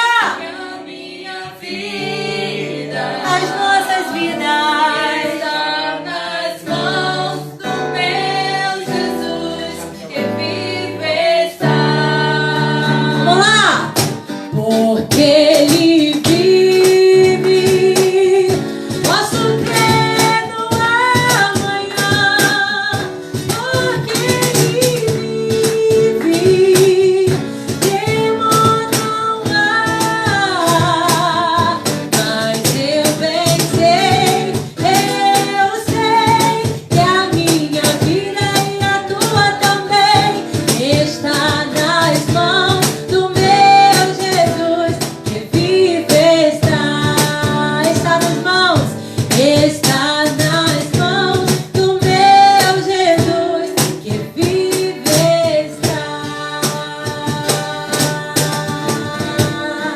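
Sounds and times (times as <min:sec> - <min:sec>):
strummed guitar: 0:00.0 - 0:59.9
woman singing worship song: 0:00.0 - 0:59.9.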